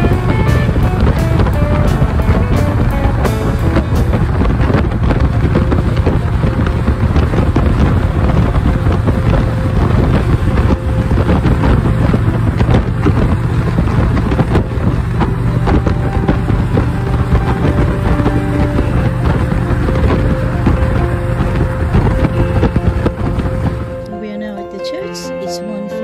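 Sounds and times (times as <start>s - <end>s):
wind buffeting microphone: 0.0s - 24.1s
motorcycle engine cruising: 0.0s - 24.2s.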